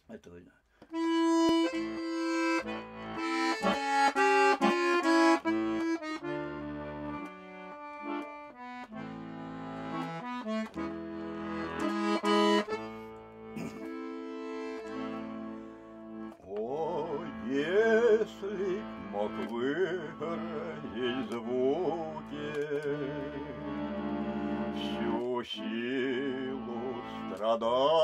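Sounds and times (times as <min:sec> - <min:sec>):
solo accordion melody: 0:00.8 - 0:28.0.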